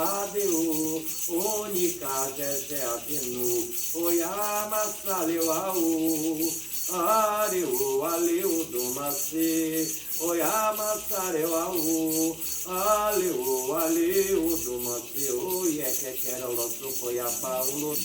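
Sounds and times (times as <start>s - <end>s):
rattle shaken in quick beat: 0.0s - 18.0s
ritual chant singing: 0.0s - 18.0s.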